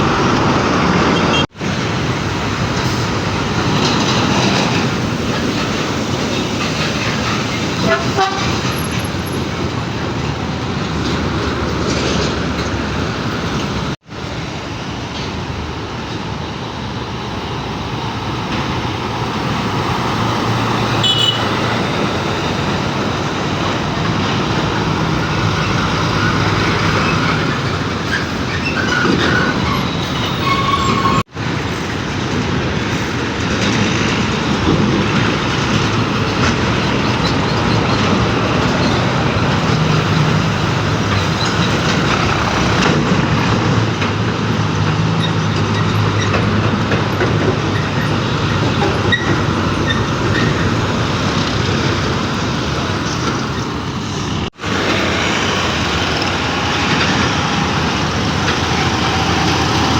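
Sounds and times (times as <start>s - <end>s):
diesel truck engines humming: 0.0s - 59.9s
rolling noise: 0.0s - 59.9s.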